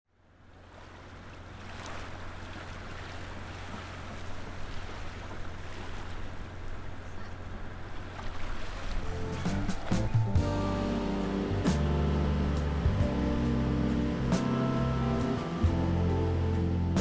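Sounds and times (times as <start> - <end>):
wind: 0.1 - 17.0
steady low hum: 0.2 - 17.0
water rushing: 0.4 - 17.0.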